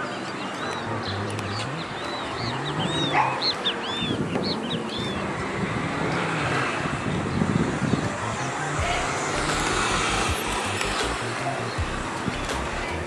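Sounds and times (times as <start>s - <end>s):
birds chirping: 0.0s - 13.0s
steady rushing rumble: 0.9s - 13.0s.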